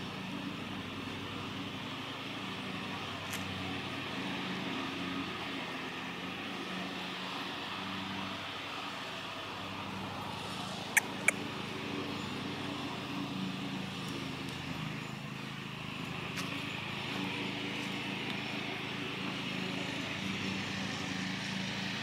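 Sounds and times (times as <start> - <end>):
motor droning: 0.0 - 22.0.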